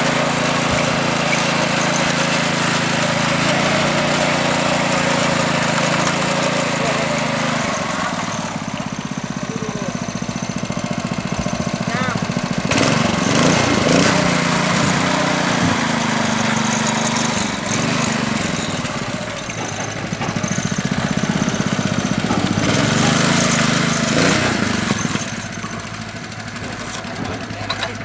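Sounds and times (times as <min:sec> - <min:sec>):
power trowel petrol engine running: 0:00.0 - 0:28.0.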